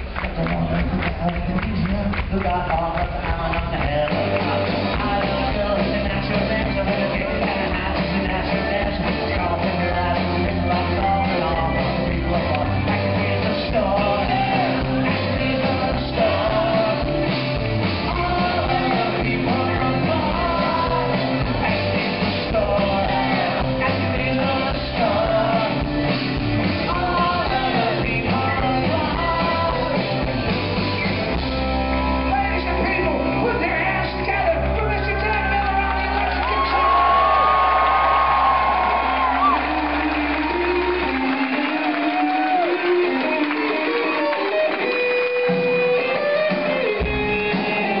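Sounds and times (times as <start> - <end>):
lead vocalist singing: 0.0 - 44.8
live rock band: 0.0 - 48.0.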